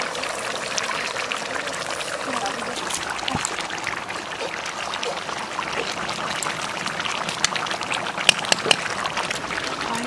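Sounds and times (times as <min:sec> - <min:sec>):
curry simmering and bubbling: 0:00.0 - 0:10.0.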